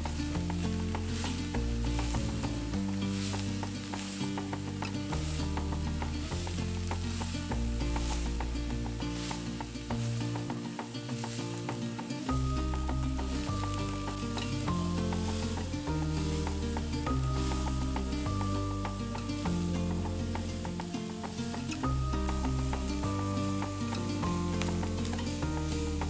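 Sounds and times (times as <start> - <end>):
food sizzling in a pan: 0.2 - 26.0.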